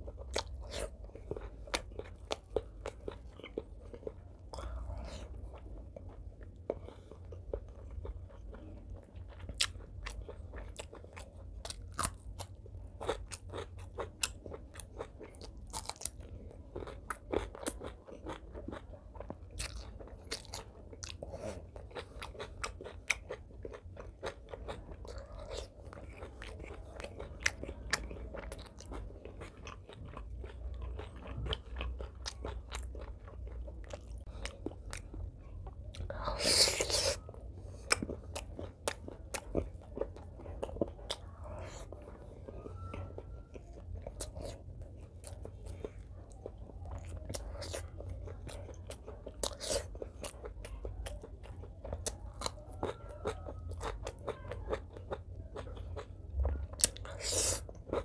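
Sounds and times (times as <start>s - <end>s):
person chewing and crunching food: 0.0s - 58.0s
steady low hum: 0.0s - 58.0s.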